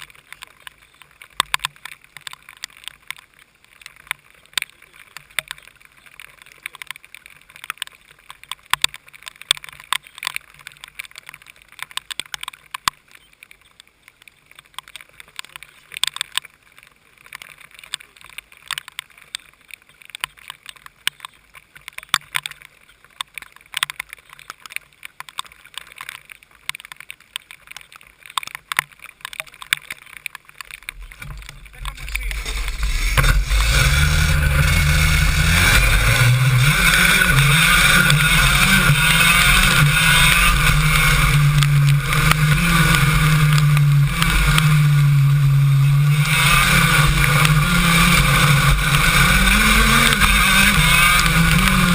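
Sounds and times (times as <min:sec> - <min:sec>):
heavy rain pattering on camera: 0:00.0 - 0:51.9.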